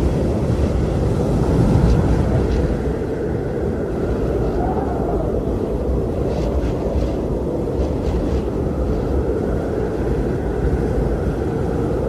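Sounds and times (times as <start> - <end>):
strong wind blowing: 0.0 - 12.0.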